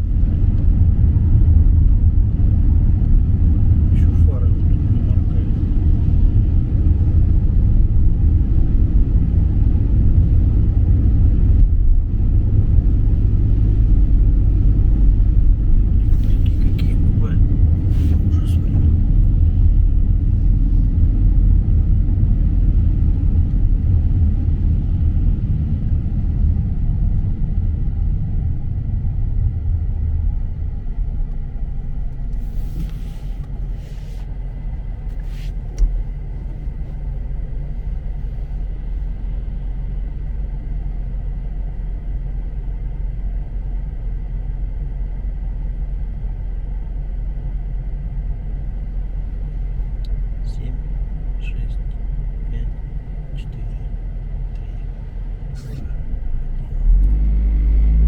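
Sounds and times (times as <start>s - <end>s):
vehicle rumble from inside: 0.0s - 58.0s.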